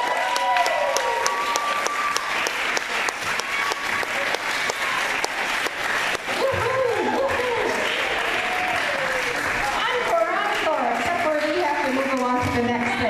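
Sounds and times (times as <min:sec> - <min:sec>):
audience applauding: 0:00.0 - 0:13.0
steady nearby hand clapping: 0:00.0 - 0:13.0.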